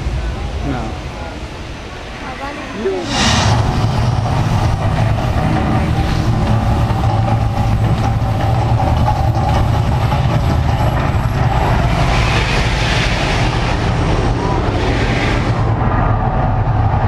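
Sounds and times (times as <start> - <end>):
deep rumbling: 0.0 - 17.0.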